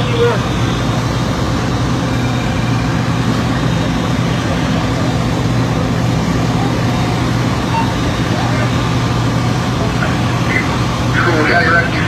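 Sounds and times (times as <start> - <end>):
fire engines running: 0.0 - 12.0.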